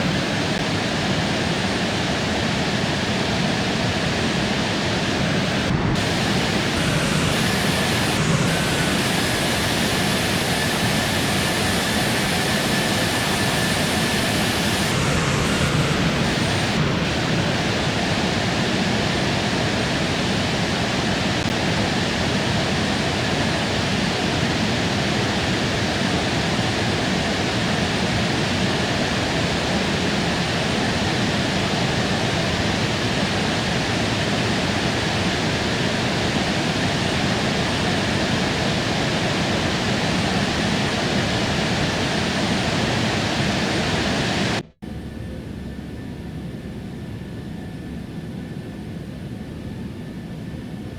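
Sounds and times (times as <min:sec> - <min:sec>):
faint high whine: 0:00.0 - 0:50.9
jet engine and airflow rush: 0:00.0 - 0:50.9.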